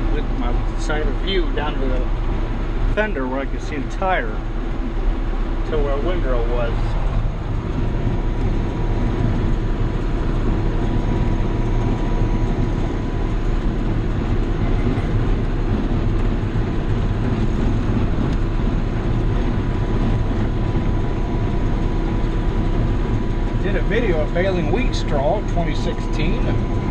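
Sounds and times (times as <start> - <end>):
tractor running under load: 0.0 - 26.9.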